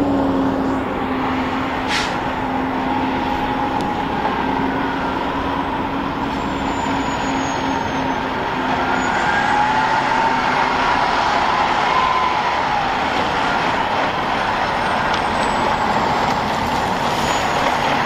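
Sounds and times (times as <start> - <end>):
garbage truck engine droning: 0.0 - 18.0.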